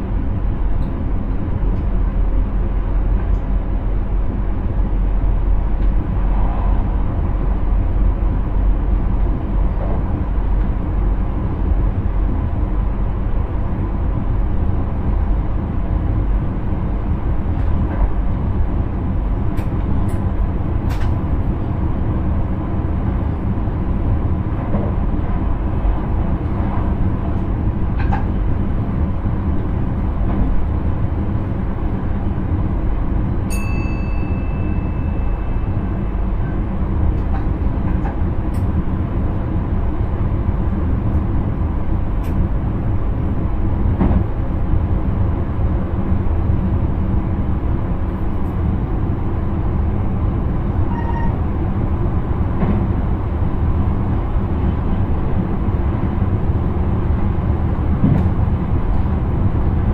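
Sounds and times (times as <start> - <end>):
train rumbling in motion: 0.0 - 59.9.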